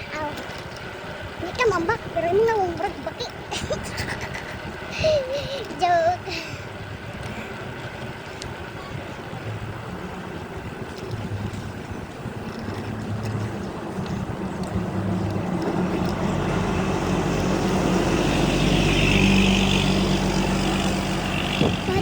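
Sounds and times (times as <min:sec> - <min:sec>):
small motorcycle engine running: 0:00.0 - 0:22.0
wind on microphone: 0:03.6 - 0:22.0.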